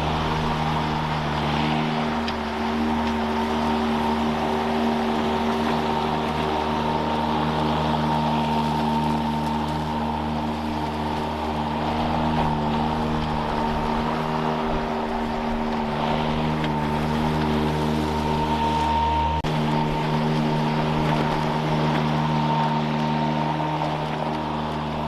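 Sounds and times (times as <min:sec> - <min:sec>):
electric lawn mower running: 0:00.0 - 0:25.0.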